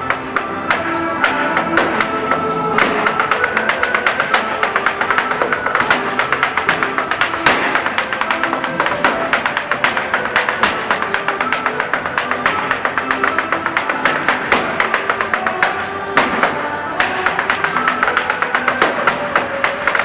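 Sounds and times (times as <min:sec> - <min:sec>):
hard shoes tapping on stage: 0:00.0 - 0:20.0
irish dance music: 0:00.0 - 0:20.0.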